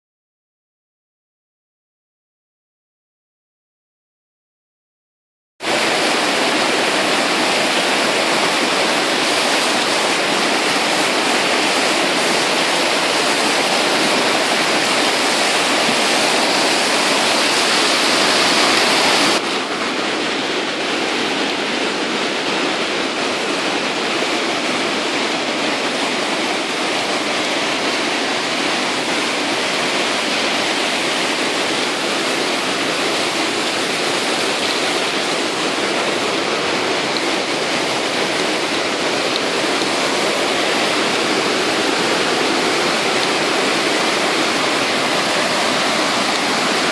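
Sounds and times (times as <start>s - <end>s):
white water rushing: 5.6s - 46.9s.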